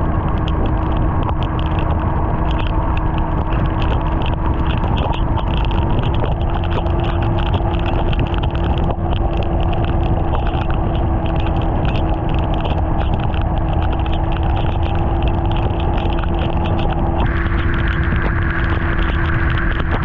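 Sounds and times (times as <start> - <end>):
motorcycle engine running: 0.0 - 20.0
wind noise on microphone: 0.0 - 20.0.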